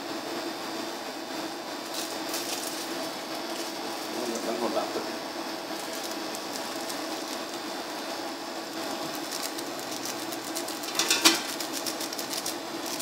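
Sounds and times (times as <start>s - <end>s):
steady low hum: 0.0s - 13.0s
seasoning sachet crinkling: 1.8s - 13.0s.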